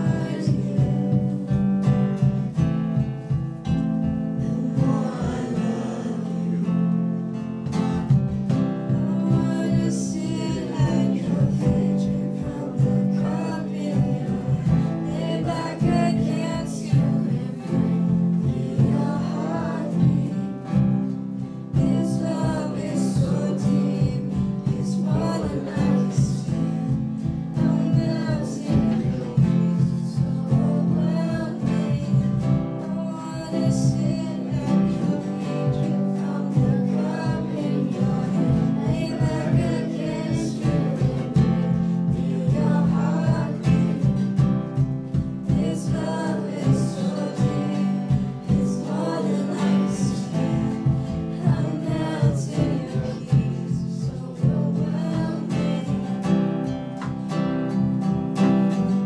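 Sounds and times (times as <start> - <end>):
drum kit: 0.0 - 59.0
strummed acoustic guitar: 0.0 - 59.0
woman singing: 0.0 - 59.0.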